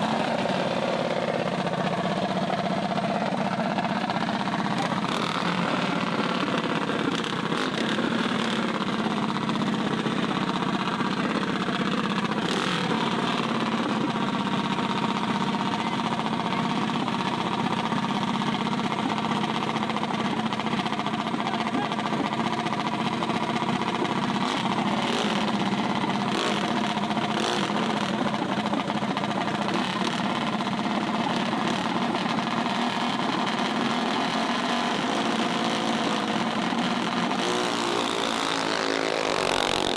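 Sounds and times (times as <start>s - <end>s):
mini bike engine idling: 0.0s - 39.9s.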